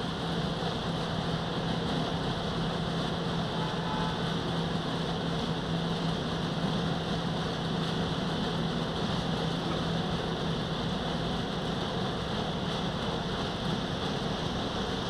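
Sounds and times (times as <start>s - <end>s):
milling machine diesel engine drone: 0.0s - 15.0s.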